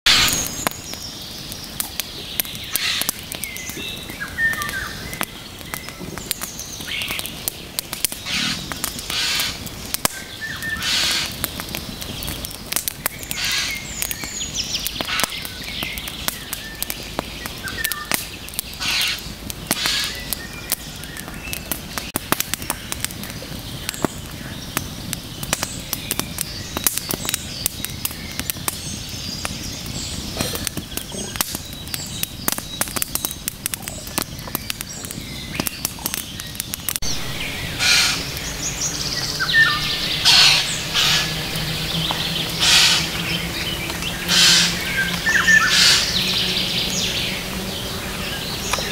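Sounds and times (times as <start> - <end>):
campfire crackling: 0.0 - 48.9
birds chirping: 0.1 - 48.9.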